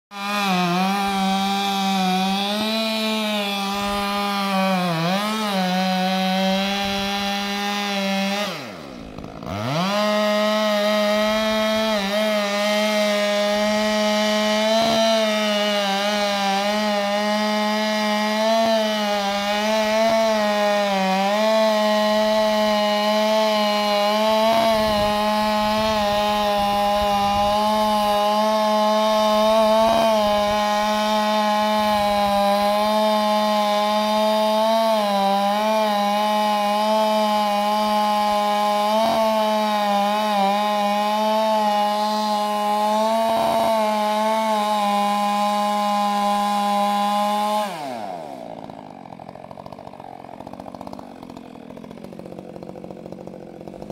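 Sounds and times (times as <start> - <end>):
chainsaw cutting into tree: 0.1 - 53.9.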